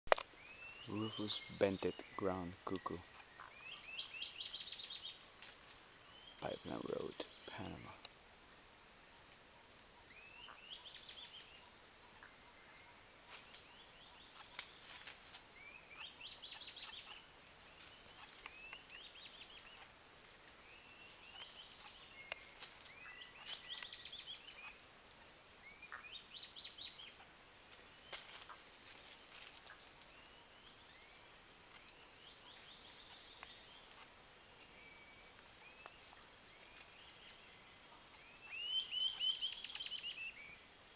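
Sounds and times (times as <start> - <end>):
bird chirping: 0.1 - 40.7.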